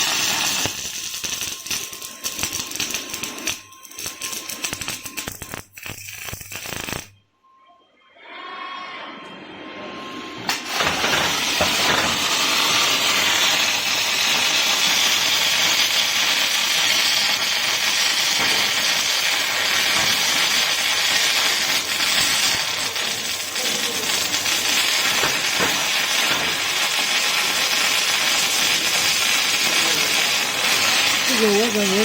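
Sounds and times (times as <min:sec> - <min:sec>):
welding arc crackling hiss: 0:00.0 - 0:07.2, 0:10.5 - 0:32.0.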